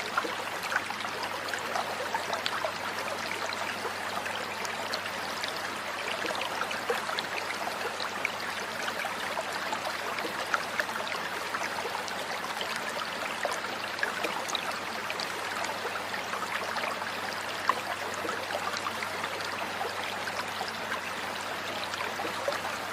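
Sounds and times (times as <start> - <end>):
water rushing and trickling: 0.0 - 22.9.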